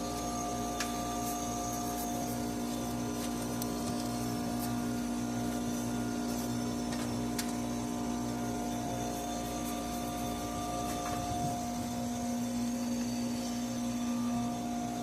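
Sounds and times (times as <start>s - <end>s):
air conditioning hum: 0.0s - 15.0s.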